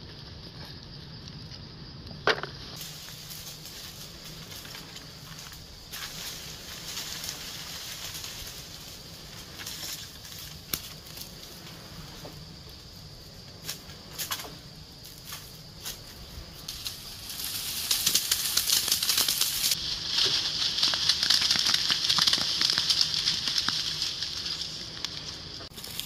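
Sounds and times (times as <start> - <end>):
leaves and twigs crackling: 0.0 - 26.0.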